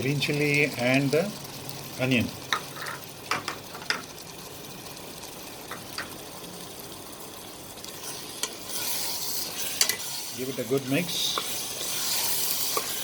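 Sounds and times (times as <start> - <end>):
vegetables sizzling in a cooker: 0.0 - 13.0.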